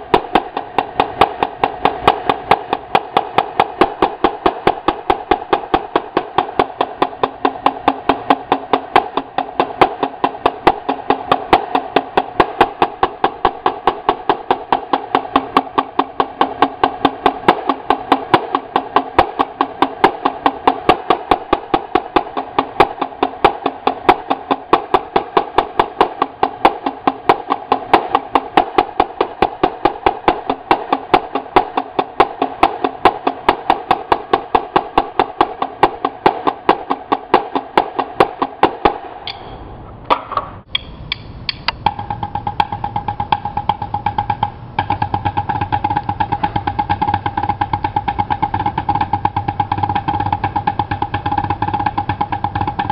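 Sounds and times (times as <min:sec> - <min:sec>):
marching snare drums: 0:00.0 - 0:39.2, 0:41.8 - 0:52.9.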